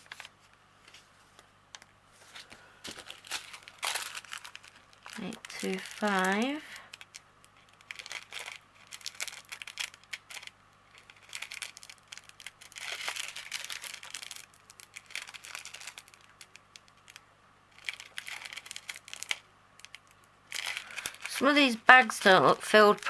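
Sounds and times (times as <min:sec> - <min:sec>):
plastic bags crinkling: 0:02.2 - 0:23.0.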